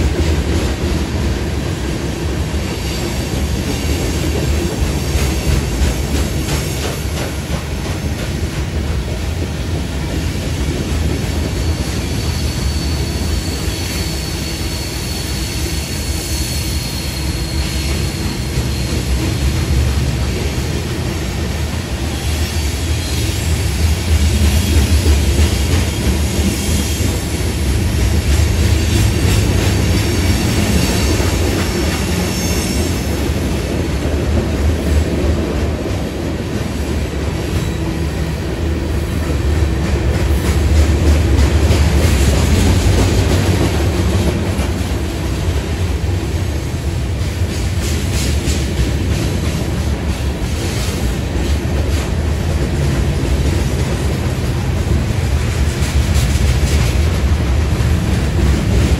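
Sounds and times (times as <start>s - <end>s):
freight train rolling past: 0.0s - 58.9s.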